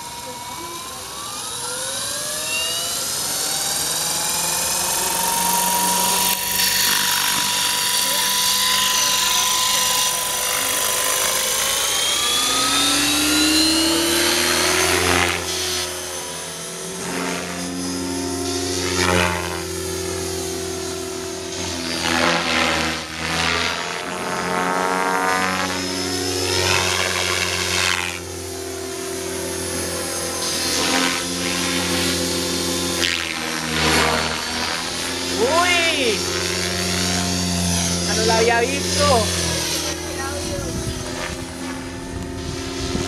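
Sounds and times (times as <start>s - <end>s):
rc helicopter motor and rotor whine: 0.0s - 43.0s.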